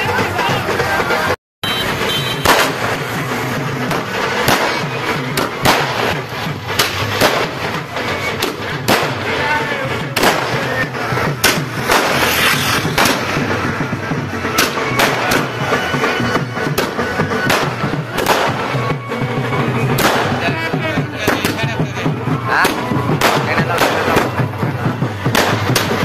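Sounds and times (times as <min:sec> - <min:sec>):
fireworks banging: 0:00.0 - 0:26.0
music playing: 0:00.0 - 0:26.0.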